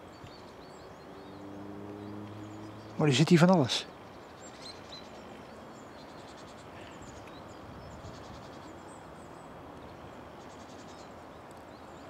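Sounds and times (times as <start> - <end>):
distant birds chirping: 0.0 - 12.0
steady outdoor hiss: 0.0 - 12.0.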